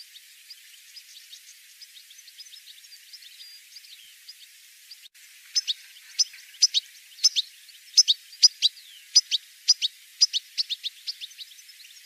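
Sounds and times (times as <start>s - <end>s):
goldfinch calls: 0.0s - 12.0s.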